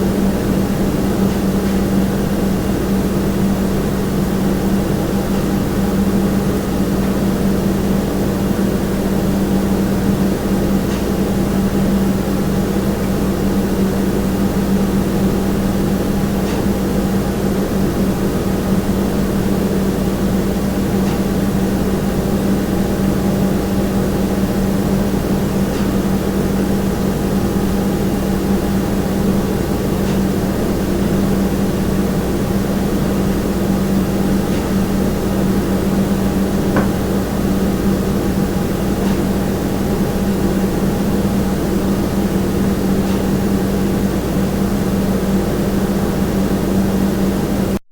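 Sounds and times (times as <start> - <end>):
steady low hum: 0.0 - 47.8.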